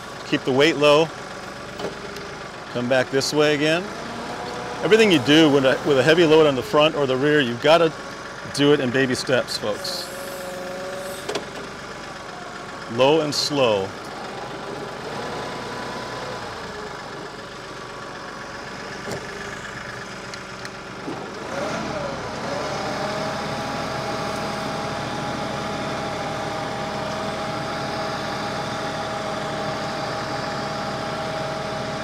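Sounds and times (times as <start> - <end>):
engine whine: 0.0 - 32.0
tractor diesel engine running: 0.0 - 32.0.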